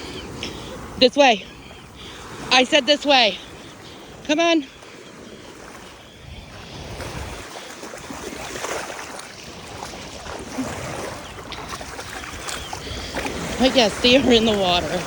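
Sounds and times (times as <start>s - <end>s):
surf washing up on beach: 0.0s - 15.0s
wind buffeting microphone: 0.0s - 15.0s.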